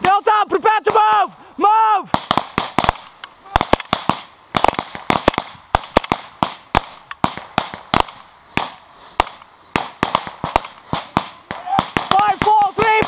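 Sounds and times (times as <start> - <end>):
rifles firing blank rounds: 2.1 - 13.0.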